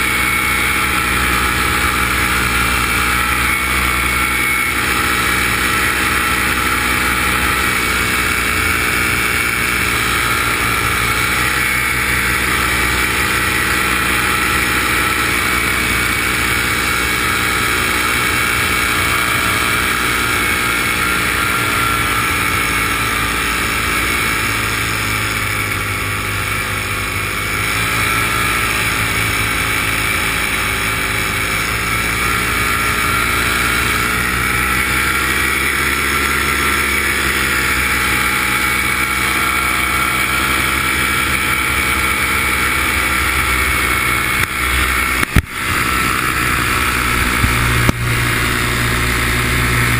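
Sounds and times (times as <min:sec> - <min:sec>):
drone propellers whining: 0:00.0 - 0:49.9.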